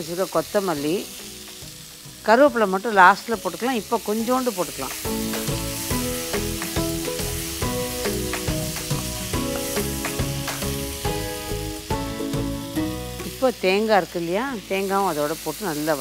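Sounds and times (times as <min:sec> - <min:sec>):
instrumental background music: 0:00.0 - 0:16.0
vegetables sizzling in frying pan: 0:00.0 - 0:16.0.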